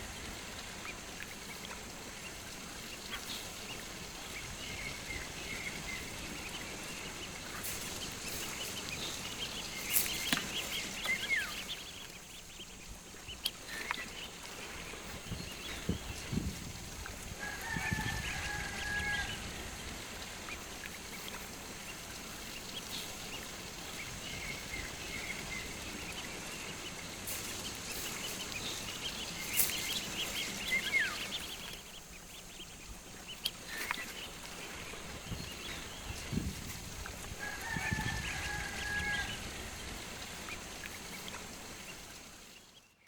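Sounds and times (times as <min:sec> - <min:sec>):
farmyard birds calling: 0:00.0 - 0:43.0
outdoor background noise: 0:00.0 - 0:43.0.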